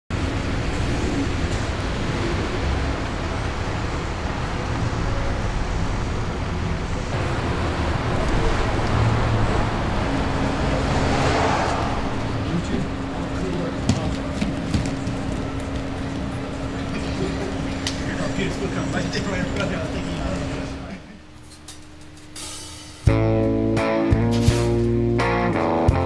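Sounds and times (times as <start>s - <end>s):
passing cars traffic noise: 0.1s - 23.2s.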